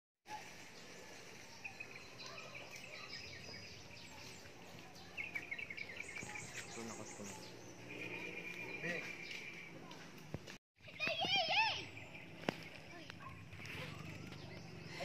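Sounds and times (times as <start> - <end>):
faint birds chirping: 0.3 - 15.0.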